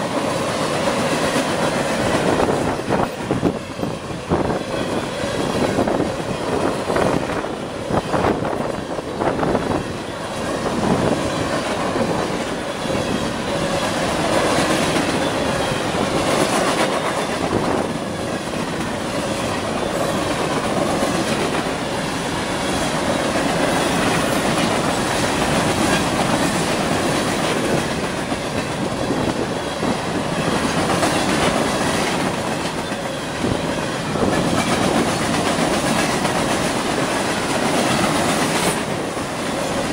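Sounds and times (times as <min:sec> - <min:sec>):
freight train wheels clickety-clack: 0:00.0 - 0:39.9.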